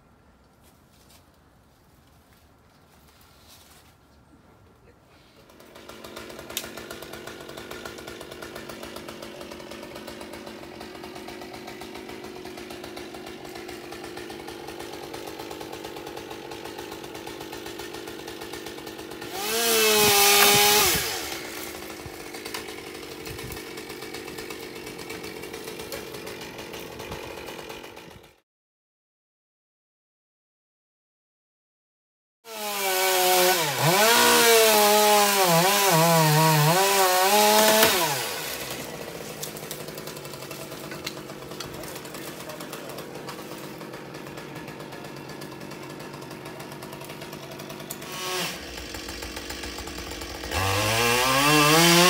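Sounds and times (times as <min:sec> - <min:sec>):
chainsaw engine revving: 0:05.5 - 0:28.4, 0:32.5 - 0:52.0.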